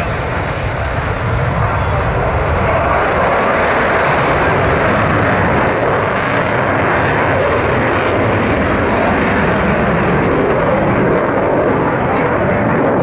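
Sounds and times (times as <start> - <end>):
jet engine roar overhead: 0.0 - 13.0.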